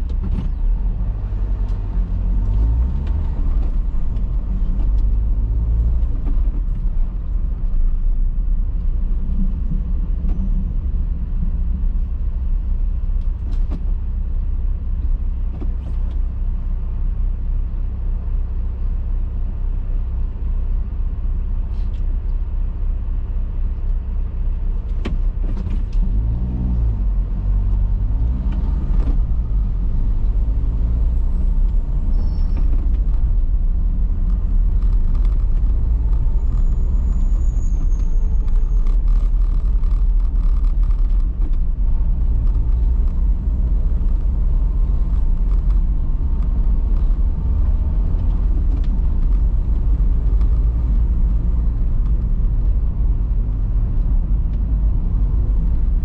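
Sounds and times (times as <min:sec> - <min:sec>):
car rumbling on road: 0:00.0 - 0:56.0.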